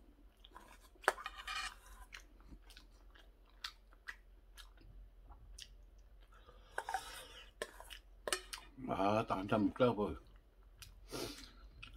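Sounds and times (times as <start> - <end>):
man chewing food: 0.0 - 8.8, 10.2 - 11.9.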